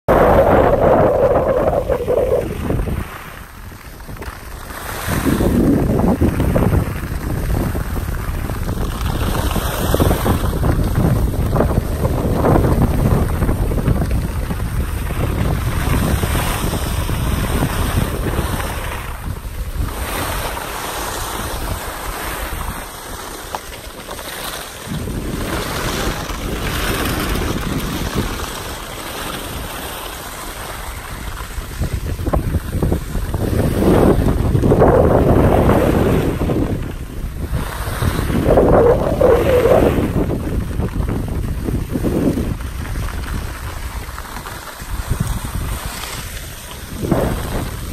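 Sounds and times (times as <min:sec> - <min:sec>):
wind buffeting microphone: 0:00.0 - 0:47.9
skis sliding over snow: 0:00.1 - 0:47.9.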